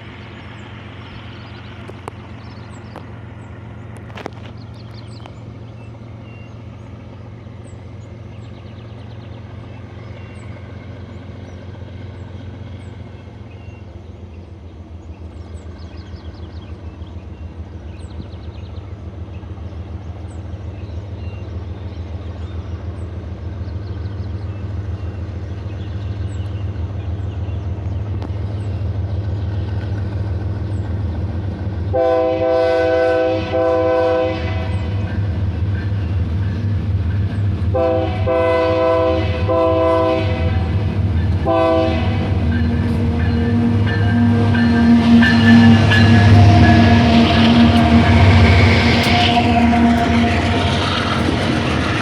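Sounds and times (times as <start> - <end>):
locomotive diesel engines droning: 0.0 - 52.0.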